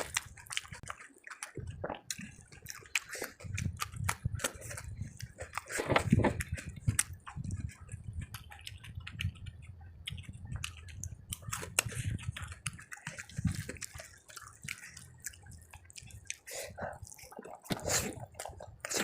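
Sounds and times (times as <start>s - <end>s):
chewing and wet mouth sounds: 0.0s - 19.0s.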